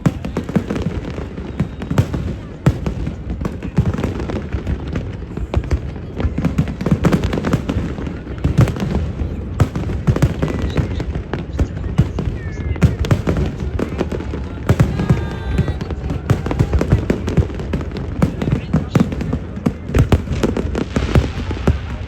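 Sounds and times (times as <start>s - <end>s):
fireworks cracking and booming: 0.0s - 22.0s.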